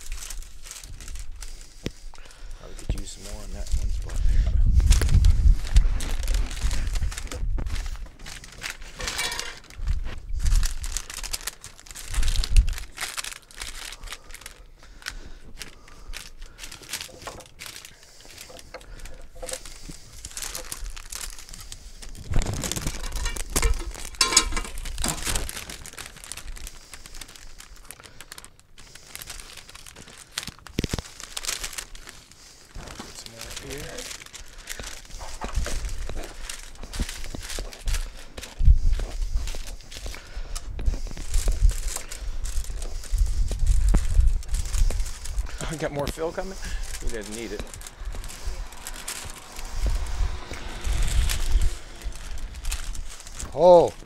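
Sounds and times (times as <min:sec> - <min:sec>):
paper crinkling and rustling: 0:00.0 - 0:54.0.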